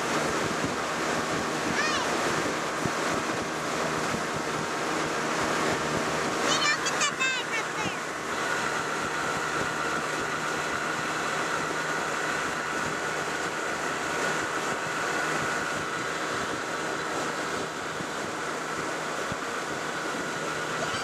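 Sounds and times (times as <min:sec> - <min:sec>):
boat motor whining: 0:00.0 - 0:21.0
rushing water noise: 0:00.0 - 0:21.0.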